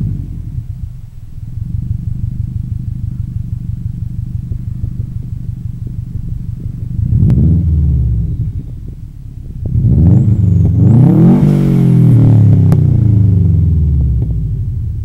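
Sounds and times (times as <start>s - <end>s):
engine revving: 0.0s - 8.8s, 9.6s - 15.0s
car engine idling: 0.0s - 15.0s.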